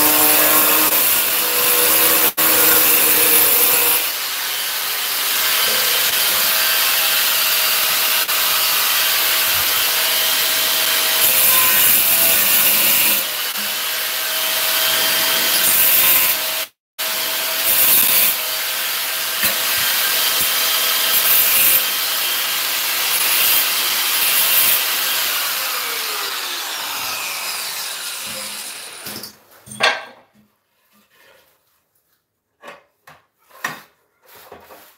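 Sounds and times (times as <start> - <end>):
angle grinder cutting tile: 0.0 - 29.4.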